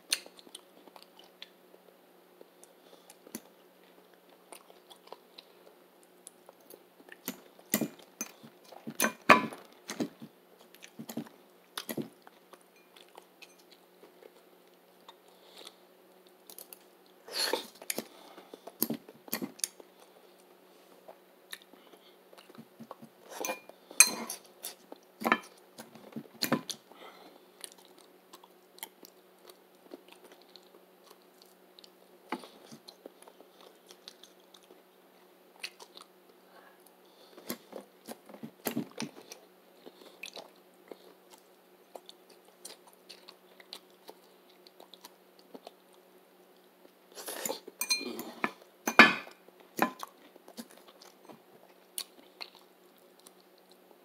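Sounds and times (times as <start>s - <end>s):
crunchy chewing of vegetables: 0.0s - 48.8s, 49.4s - 54.0s.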